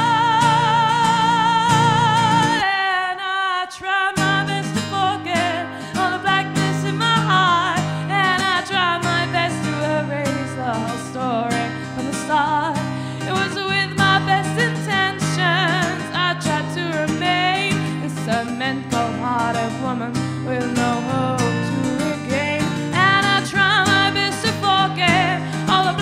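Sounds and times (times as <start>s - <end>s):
acoustic guitar: 0.0s - 26.0s
woman singing with vibrato: 0.0s - 26.0s.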